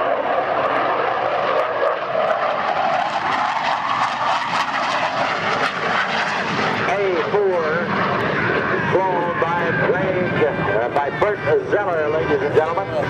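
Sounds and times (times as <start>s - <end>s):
jet aircraft passing: 0.0s - 13.0s.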